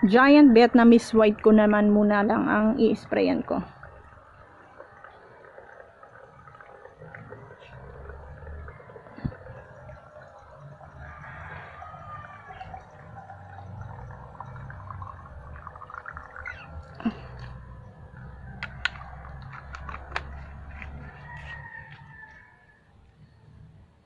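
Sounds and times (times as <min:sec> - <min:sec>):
low background rumble: 0:00.1 - 0:22.4.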